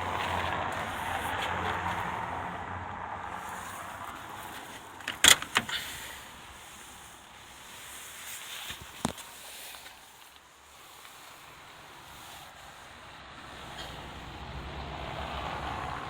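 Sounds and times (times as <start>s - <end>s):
truck engine running: 0.0s - 8.3s, 10.6s - 16.0s.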